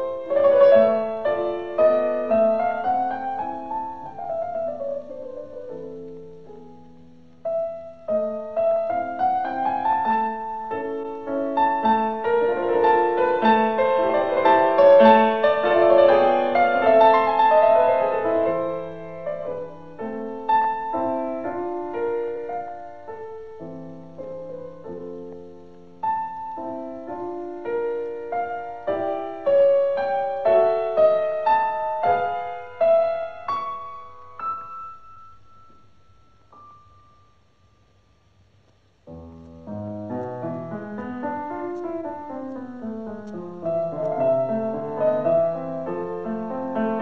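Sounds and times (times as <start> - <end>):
solo piano music: 0.0 - 47.0.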